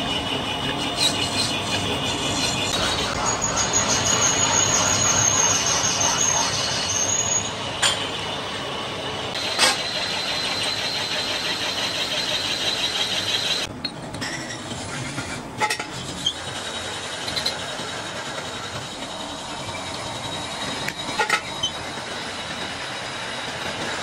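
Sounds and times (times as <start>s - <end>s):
lathe machinery whining: 0.0s - 13.8s, 14.7s - 24.0s.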